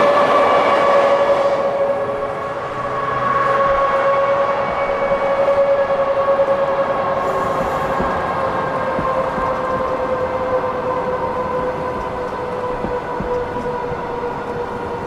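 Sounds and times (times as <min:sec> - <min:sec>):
high-pitched whine: 0:00.0 - 0:15.0
train coaches rolling past: 0:00.0 - 0:15.0.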